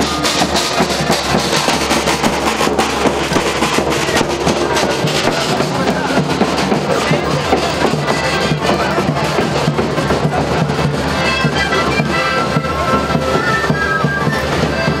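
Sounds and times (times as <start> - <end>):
bass drum beat: 0.0 - 15.0
brass band playing: 0.0 - 15.0.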